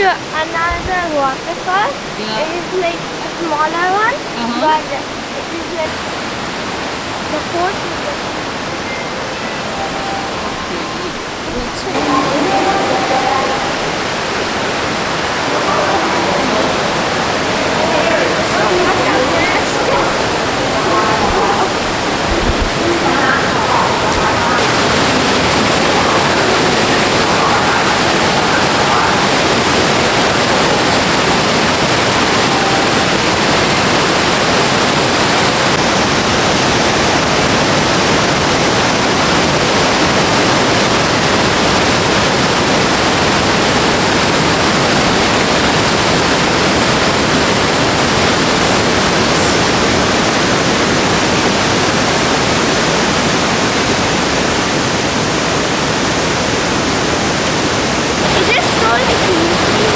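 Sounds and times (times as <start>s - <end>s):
waterfall rushing over rock: 0.0s - 59.9s.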